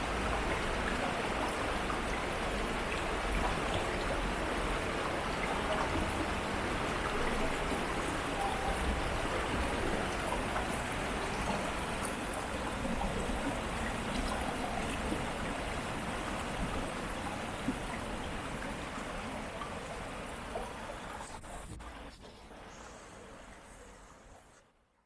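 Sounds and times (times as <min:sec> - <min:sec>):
stream water rushing: 0:00.0 - 0:22.1.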